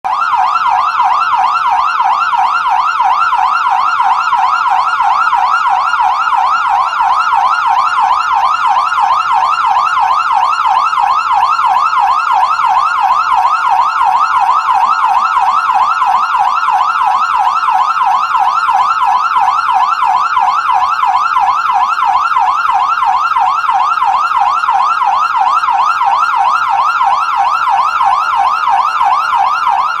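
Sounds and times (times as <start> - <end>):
ambulance siren yelping: 0.0 - 30.0.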